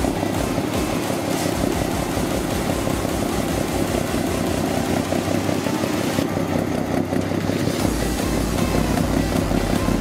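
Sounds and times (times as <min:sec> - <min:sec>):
heavy diesel truck engine: 0:00.0 - 0:10.0.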